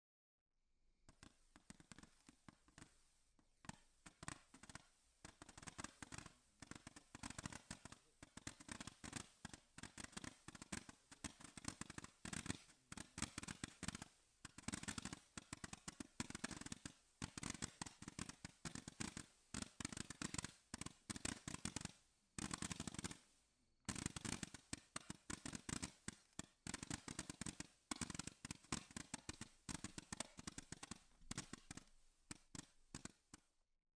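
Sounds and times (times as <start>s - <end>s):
fireworks battery popping: 1.1s - 23.2s, 23.9s - 33.6s.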